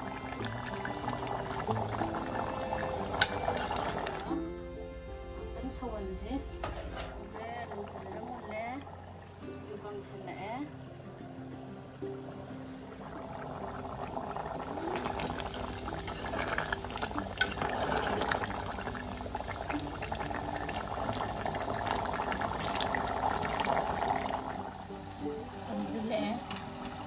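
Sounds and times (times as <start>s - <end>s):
broth boiling and bubbling: 0.0s - 4.4s, 5.9s - 27.0s.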